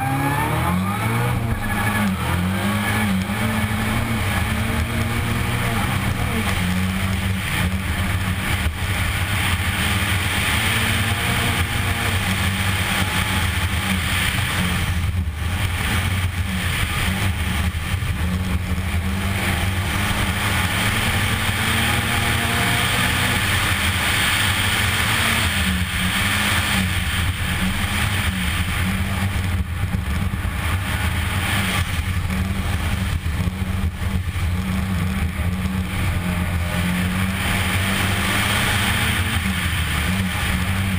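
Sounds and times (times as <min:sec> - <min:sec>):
rally car engine running hard: 0:00.0 - 0:40.9.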